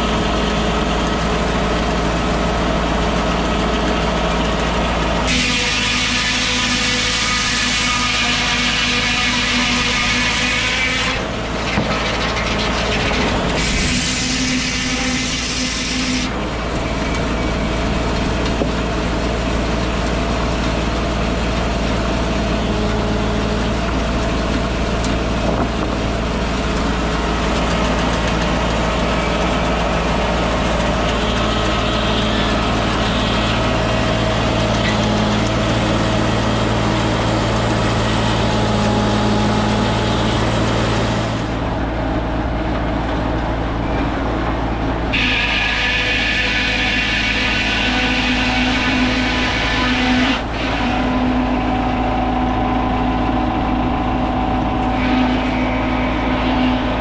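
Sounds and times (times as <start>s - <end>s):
tractor engine running: 0.0s - 5.3s, 8.5s - 57.0s
sawmill hiss: 5.0s - 42.4s, 44.6s - 57.0s.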